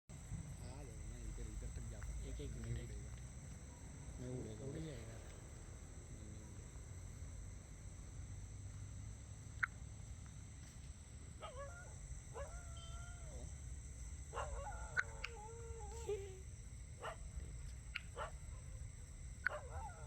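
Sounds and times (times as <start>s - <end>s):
low hum: 0.1s - 20.0s.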